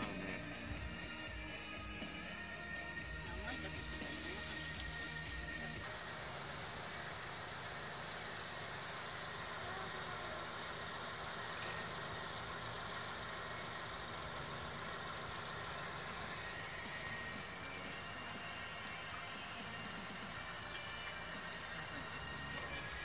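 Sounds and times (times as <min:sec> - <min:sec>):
car engine idling: 0:00.0 - 0:23.0
outdoor hiss: 0:03.4 - 0:23.0.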